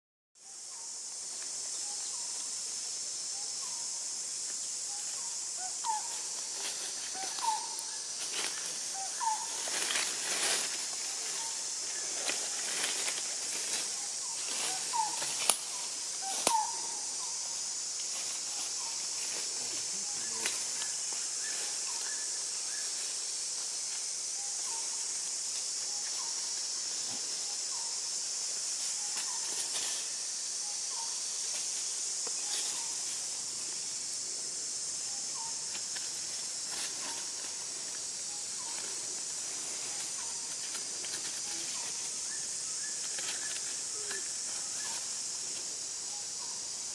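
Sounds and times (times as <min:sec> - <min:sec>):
high-pitched insect drone: 0:00.4 - 0:46.9.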